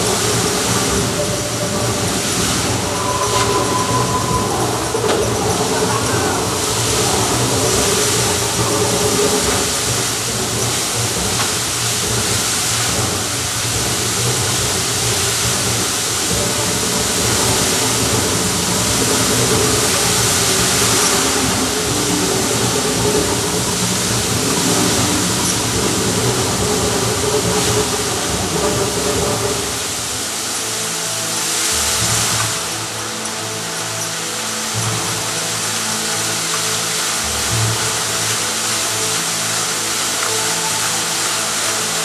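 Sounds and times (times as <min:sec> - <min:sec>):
fountain water hissing rush: 0:00.0 - 0:42.0.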